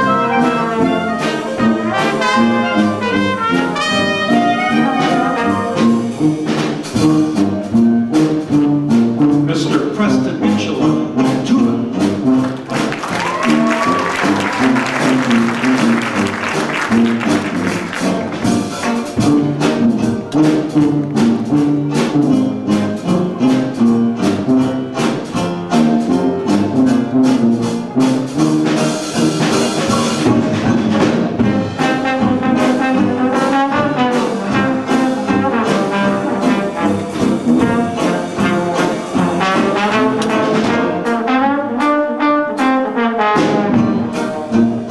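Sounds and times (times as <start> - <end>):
jazz band playing: 0.0 - 44.9
trombone: 0.0 - 44.9.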